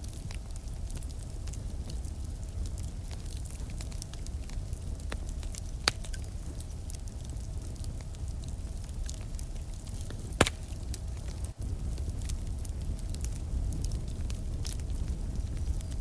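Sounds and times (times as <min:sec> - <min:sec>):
campfire crackling: 0:00.0 - 0:16.0
fire snapping: 0:00.0 - 0:16.0.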